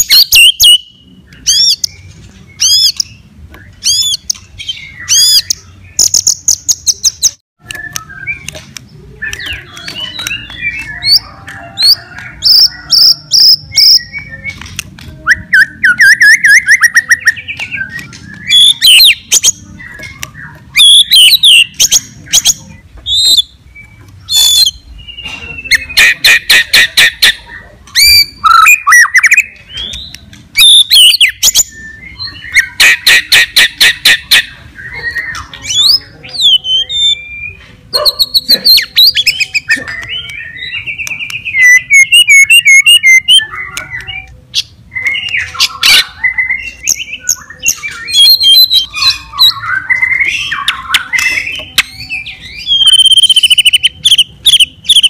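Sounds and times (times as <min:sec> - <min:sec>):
songbird singing whistles and rattles: 0:00.0 - 0:55.0.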